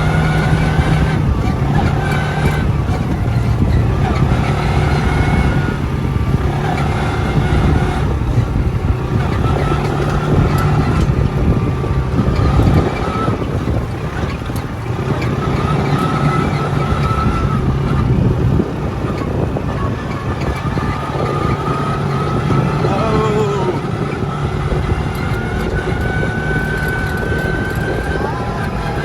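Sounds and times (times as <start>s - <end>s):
utility vehicle engine driving: 0.0s - 29.0s.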